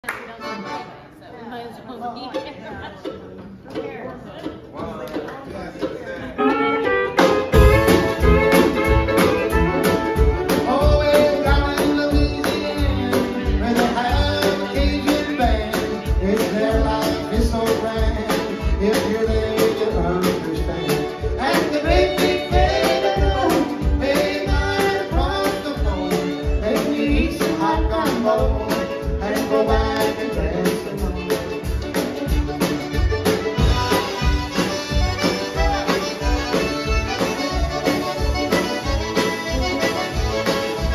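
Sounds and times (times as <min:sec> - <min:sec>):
live country band playing: 0:00.0 - 0:40.9.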